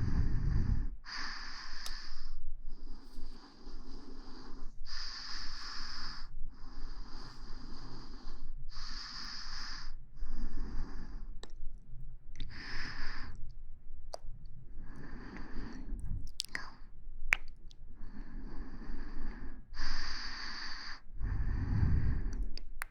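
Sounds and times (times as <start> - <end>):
slow breathing: 0.0 - 22.9.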